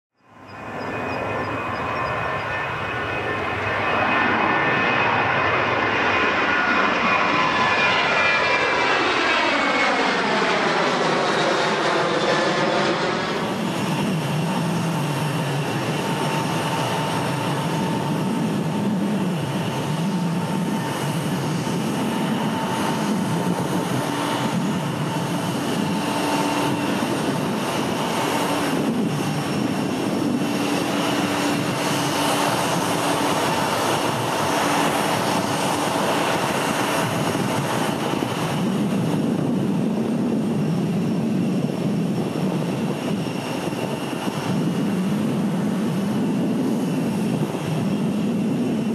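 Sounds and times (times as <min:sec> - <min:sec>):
jet engines running: 0:00.2 - 0:48.9.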